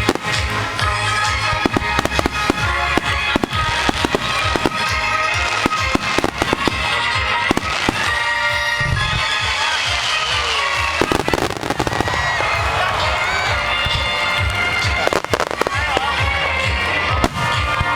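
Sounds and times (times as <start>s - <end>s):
fireworks bursting: 0.0s - 17.9s
music playing: 0.0s - 17.9s.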